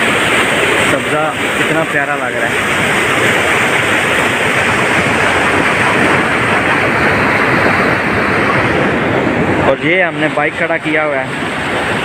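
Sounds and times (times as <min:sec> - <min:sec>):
water rushing over canal fall: 0:00.0 - 0:12.0.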